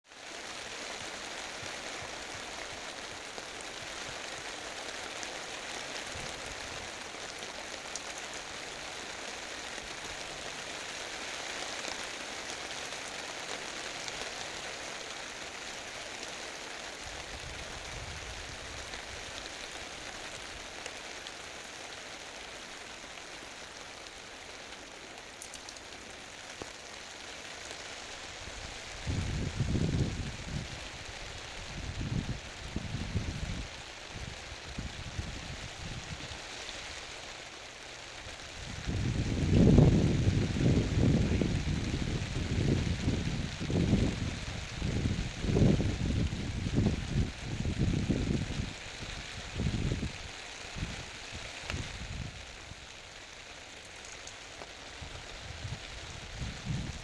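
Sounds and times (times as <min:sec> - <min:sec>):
light rain pattering: 0:00.0 - 0:57.0.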